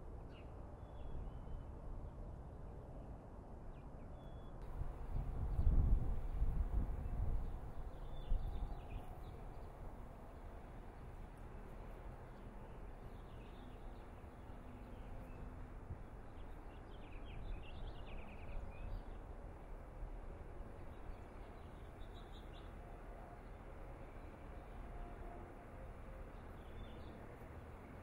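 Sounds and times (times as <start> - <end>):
faint low outdoor rumble: 0.0 - 28.0.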